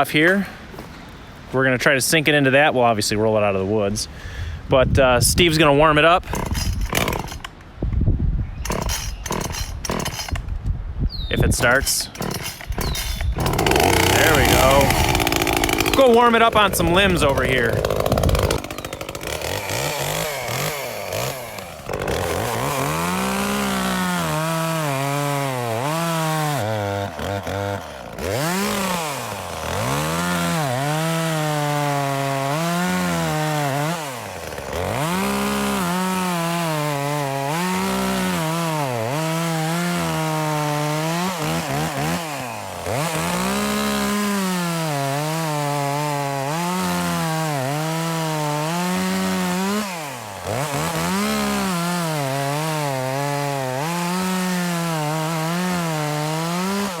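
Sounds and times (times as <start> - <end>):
chainsaw cutting wood: 6.1 - 7.6, 8.6 - 10.6, 11.6 - 57.0.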